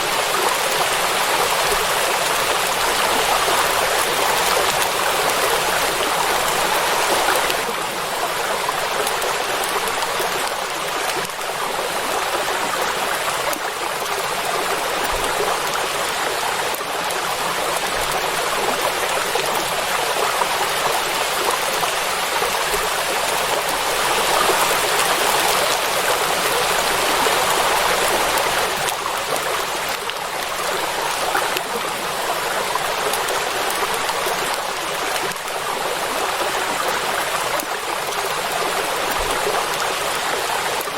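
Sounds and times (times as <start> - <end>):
heavy rain on water: 0.0 - 40.9.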